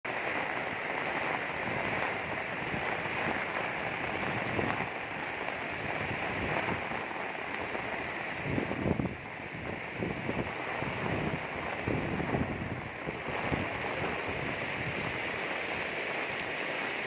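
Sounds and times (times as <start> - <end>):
heavy rain pouring: 0.0 - 17.0
wind gusting on microphone: 0.2 - 17.0.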